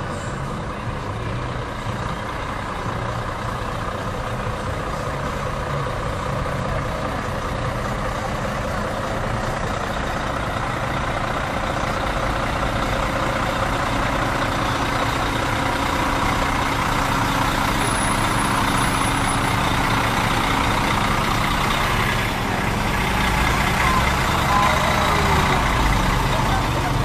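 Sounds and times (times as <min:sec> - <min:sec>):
street noise: 0:00.0 - 0:27.0
truck engine running: 0:00.0 - 0:27.0.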